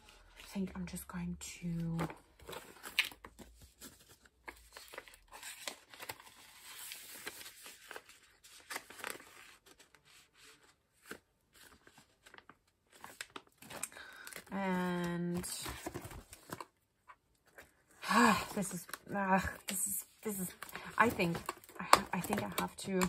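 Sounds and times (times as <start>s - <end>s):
plastic pocket crinkling and rustling: 1.9s - 17.8s, 18.4s - 23.0s.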